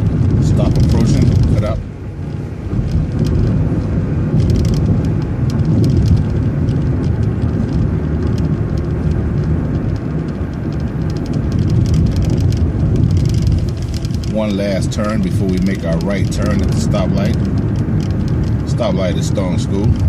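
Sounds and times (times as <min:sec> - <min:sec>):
bus engine and road rumble: 0:00.0 - 0:20.0
light rattling clicks: 0:00.2 - 0:20.0.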